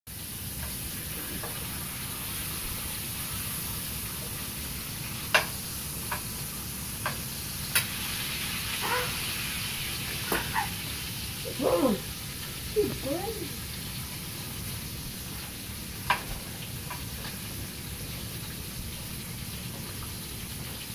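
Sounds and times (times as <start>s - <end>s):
bacon sizzling in a frying pan: 0.1s - 20.9s.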